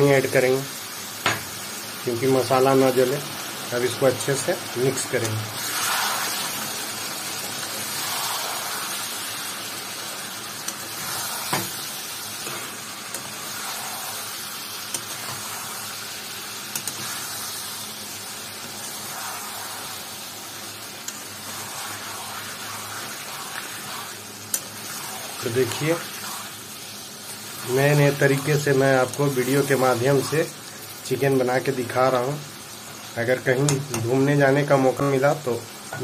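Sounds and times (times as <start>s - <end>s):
food sizzling in a wok: 0.0s - 36.0s.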